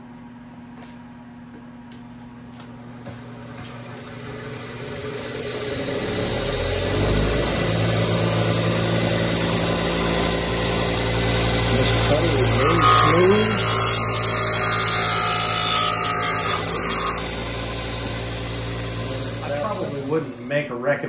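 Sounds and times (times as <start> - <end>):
cutting machine motor running: 2.9 - 20.6.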